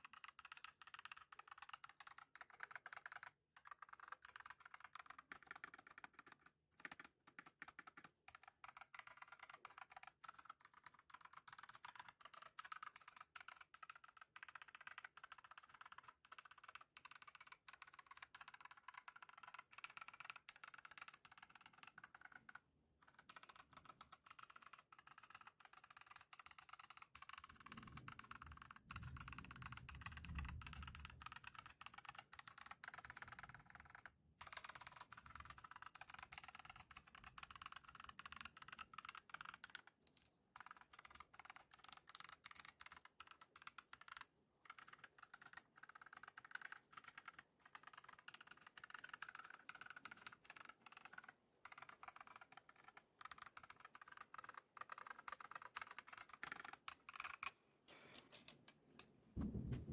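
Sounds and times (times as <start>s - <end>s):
faint mechanical keyboard typing: 0.0s - 59.9s.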